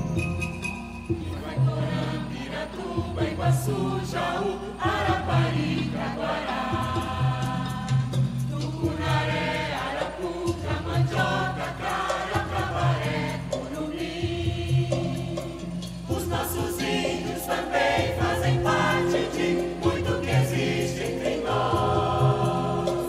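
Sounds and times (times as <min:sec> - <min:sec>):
instrumental accompaniment: 0:00.0 - 0:23.0
choir singing: 0:01.1 - 0:23.0.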